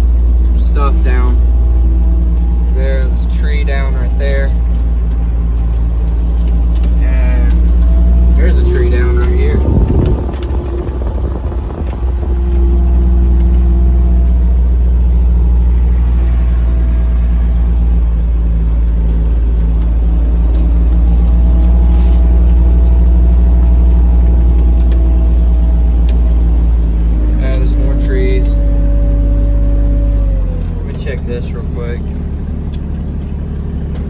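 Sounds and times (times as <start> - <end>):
off-road vehicle engine running: 0.0 - 34.0.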